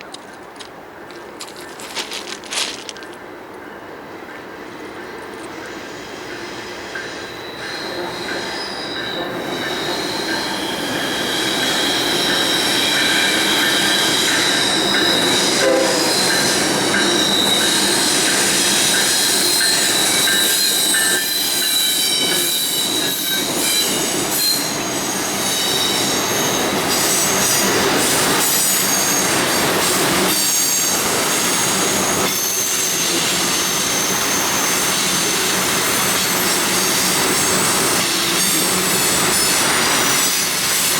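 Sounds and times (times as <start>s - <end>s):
freight train rumble: 0.0s - 40.9s
train wheels squealing on rails: 3.6s - 40.9s.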